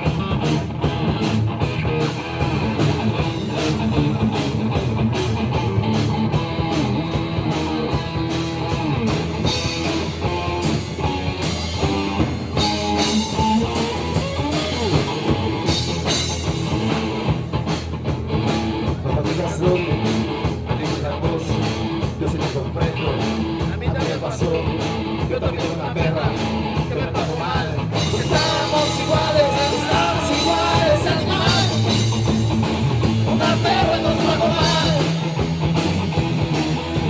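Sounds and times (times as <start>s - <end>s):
bass: 0.0s - 37.0s
drum-kit beat: 0.0s - 37.0s
guitar lines: 0.0s - 37.0s.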